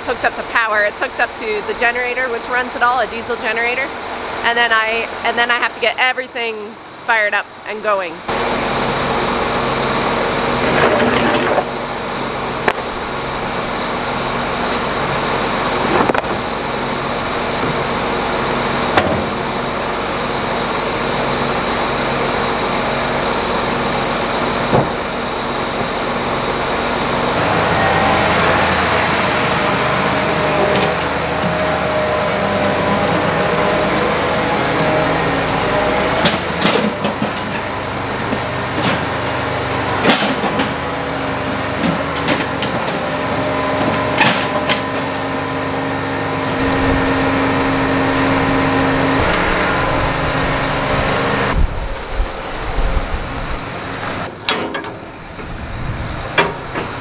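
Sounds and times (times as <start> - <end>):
tractor diesel engine idling: 0.0 - 40.0, 40.7 - 57.0.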